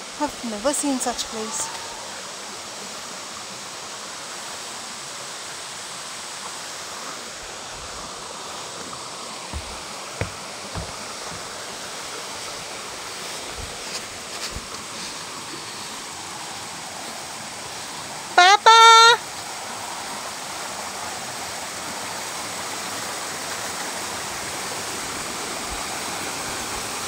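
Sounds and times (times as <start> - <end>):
water flowing over rocks: 0.0 - 27.0.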